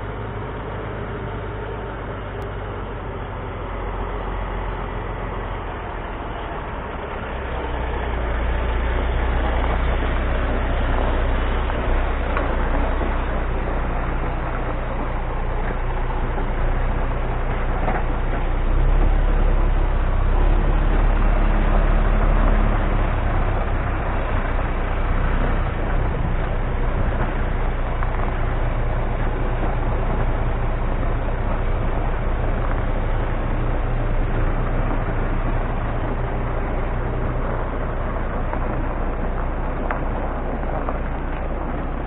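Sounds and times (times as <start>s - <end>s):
diesel truck engine running: 0.0s - 42.0s.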